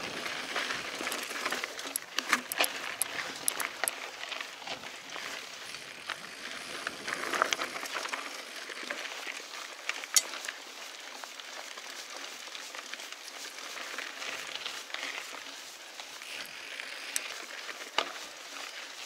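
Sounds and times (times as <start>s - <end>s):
bike clicks and rattles: 0.0s - 10.8s, 11.4s - 19.0s
bike tyres crunching on gravel: 0.0s - 19.0s.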